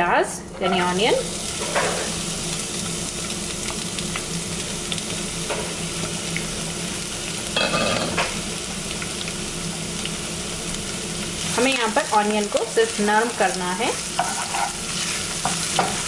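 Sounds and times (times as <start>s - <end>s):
onion sizzling in oil: 0.8s - 16.0s.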